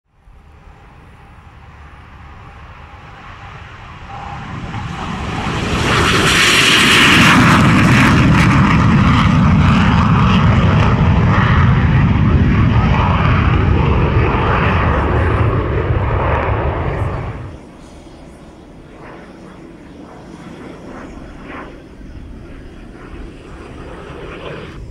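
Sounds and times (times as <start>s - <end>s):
jet engine roar: 0.1s - 24.9s.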